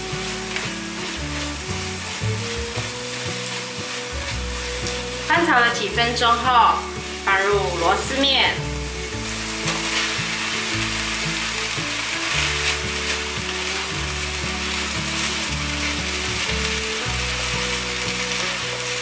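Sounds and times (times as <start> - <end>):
food sizzling in a frying pan: 0.0 - 19.0
soft background music: 0.0 - 19.0
spatula stirring in a pan: 0.0 - 19.0.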